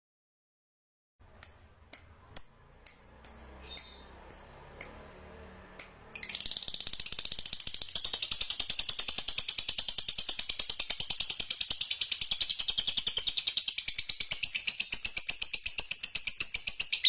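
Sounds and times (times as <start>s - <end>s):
songbird chirping and trilling: 1.4s - 17.0s.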